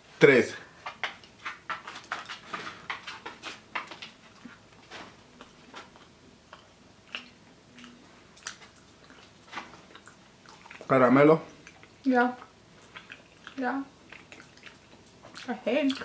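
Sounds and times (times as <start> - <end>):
jelly beans being chewed: 0.8 - 16.0.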